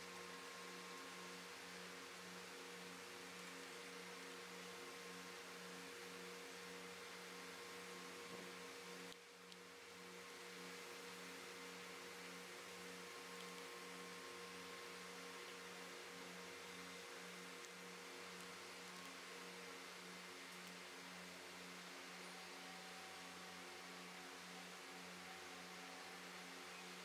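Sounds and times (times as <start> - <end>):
faint machinery hum: 0.0 - 27.0
soft hiss: 0.0 - 27.0.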